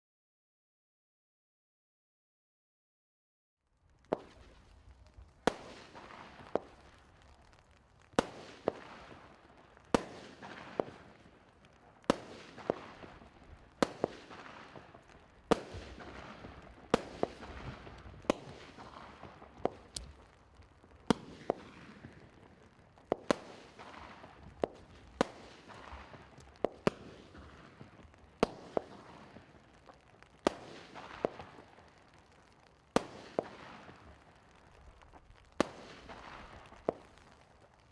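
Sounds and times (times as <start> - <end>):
firework shots cracking and hissing: 3.8 - 37.9.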